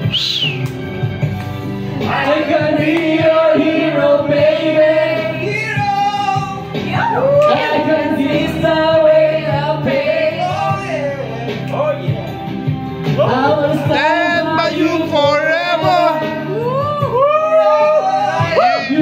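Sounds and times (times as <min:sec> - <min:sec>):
karaoke backing track: 0:00.0 - 0:19.0.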